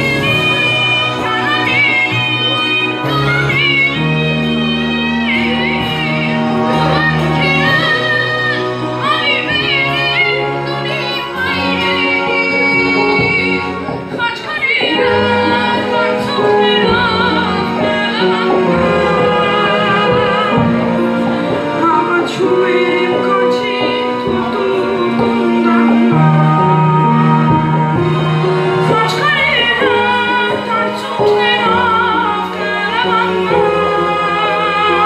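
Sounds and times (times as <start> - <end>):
sustained bass notes: 0.0 - 14.2, 14.9 - 35.0
person singing with vibrato: 0.0 - 35.0.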